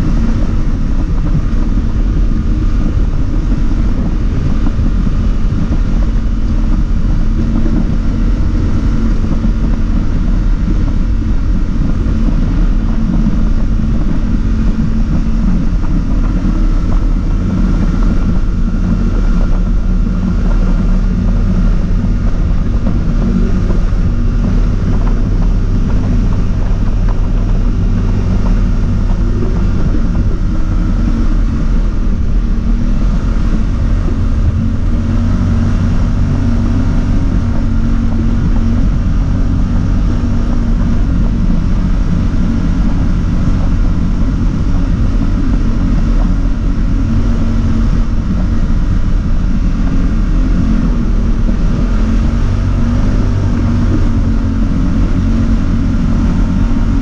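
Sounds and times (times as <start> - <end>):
atv engine droning: 0.0 - 57.0
wind noise on microphone: 0.0 - 57.0.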